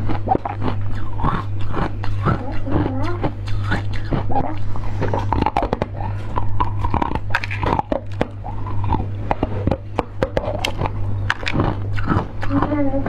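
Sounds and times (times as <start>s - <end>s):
person biting and chewing candy: 0.0s - 13.0s
wet mouth sounds: 0.0s - 13.0s.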